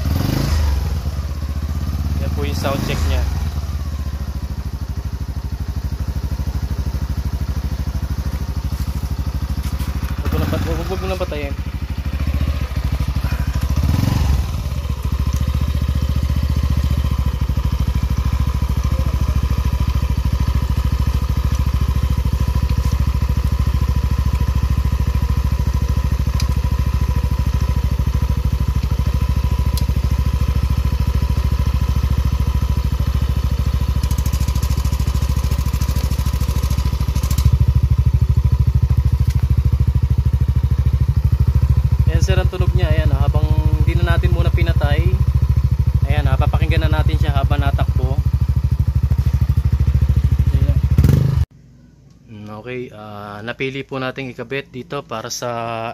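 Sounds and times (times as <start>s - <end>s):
scooter engine idling: 0.0s - 52.2s.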